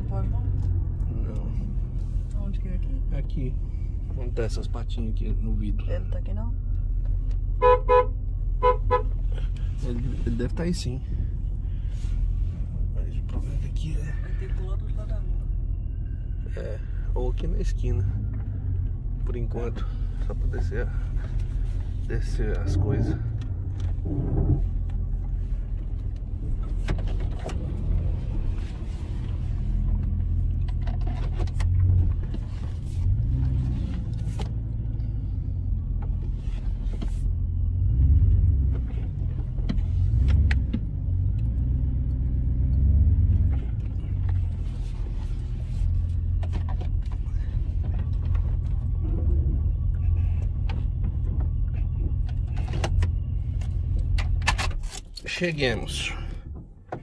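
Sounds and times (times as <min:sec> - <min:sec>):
car engine drone: 0:00.0 - 0:57.0
road noise inside car: 0:00.0 - 0:57.0.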